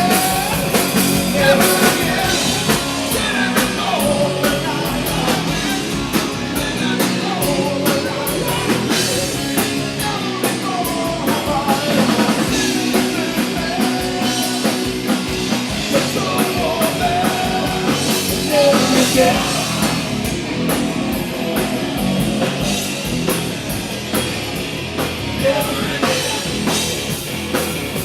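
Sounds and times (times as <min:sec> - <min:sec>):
drum kit: 0:00.0 - 0:28.0
electric guitars and bass: 0:00.0 - 0:28.0.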